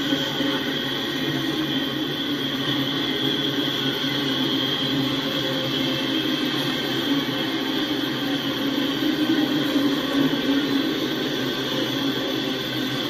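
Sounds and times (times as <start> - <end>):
freight train wheels on rails: 0.0 - 13.0.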